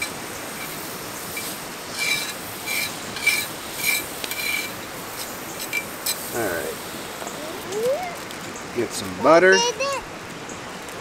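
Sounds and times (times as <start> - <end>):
butter sizzling on hot metal: 0.0 - 10.0.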